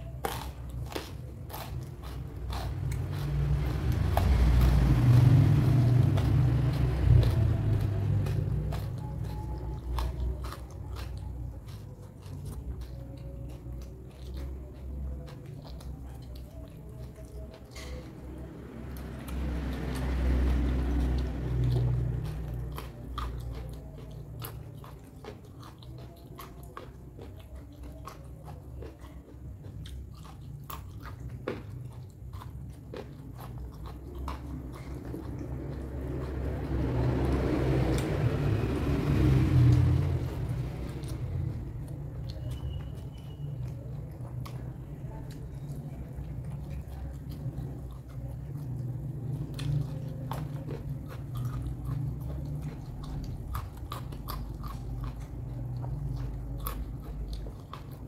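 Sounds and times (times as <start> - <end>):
chewing crunchy raw vegetables: 0.0 - 58.0.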